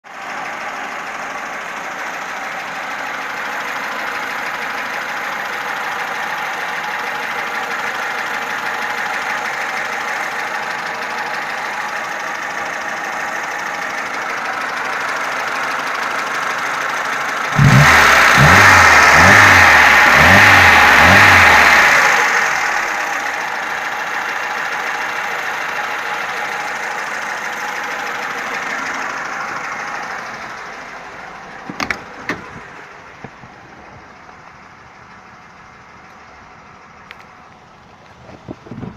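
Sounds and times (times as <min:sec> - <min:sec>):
car engine knocking: 0:00.1 - 0:38.9.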